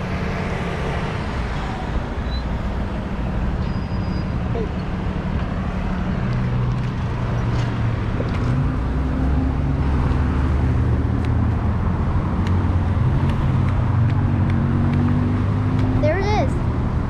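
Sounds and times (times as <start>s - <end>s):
traffic noise: 0.0s - 17.0s
vehicle engines humming: 0.0s - 17.0s.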